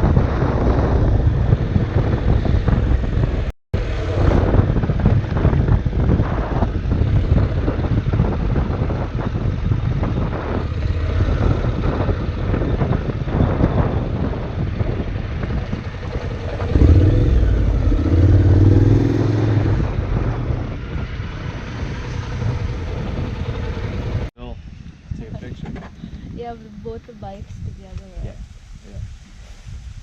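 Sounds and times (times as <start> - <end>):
motorcycle engine: 0.0 - 24.3
wind buffeting microphone: 0.0 - 30.0.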